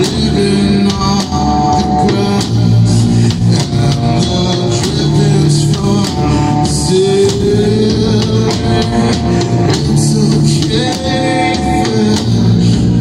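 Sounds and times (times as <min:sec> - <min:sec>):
drum and cymbal hits: 0:00.0 - 0:13.0
electric and bass guitar: 0:00.0 - 0:13.0.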